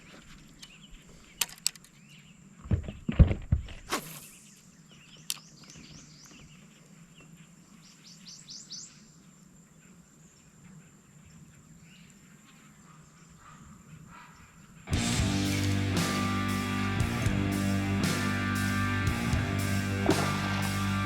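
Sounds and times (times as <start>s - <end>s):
birds chirping: 0.0s - 3.3s, 4.1s - 21.0s
outdoor background noise: 0.0s - 21.0s.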